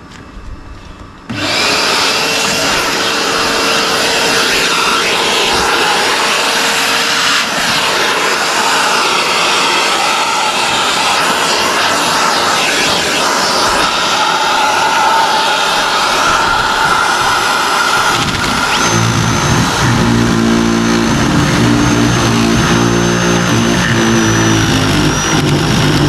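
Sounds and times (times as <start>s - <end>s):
electric power tool running: 1.3s - 26.0s.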